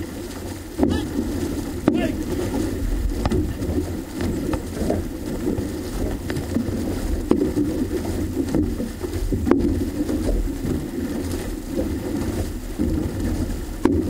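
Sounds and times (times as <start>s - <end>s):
water splashing along canoe hull: 0.0s - 14.0s
wind buffeting microphone: 0.0s - 14.0s.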